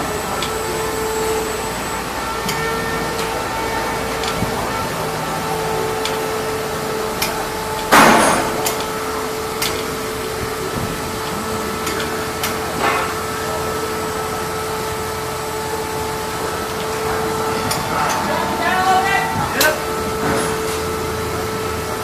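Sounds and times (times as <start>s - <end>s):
metal tools clanking: 0.0s - 21.7s
steady hum: 0.0s - 22.0s
loud metal clatter: 1.3s - 22.0s.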